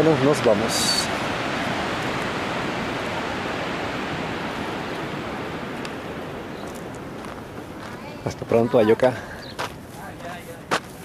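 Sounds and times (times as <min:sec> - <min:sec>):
river rushing over rocks: 0:00.0 - 0:09.2.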